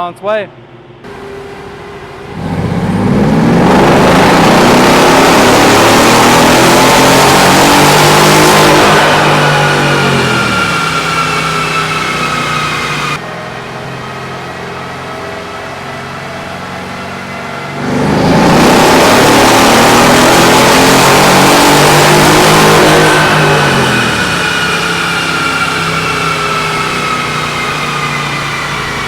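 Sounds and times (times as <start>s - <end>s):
car engine at full throttle: 1.0s - 29.0s
dyno rollers spinning down: 1.1s - 29.0s.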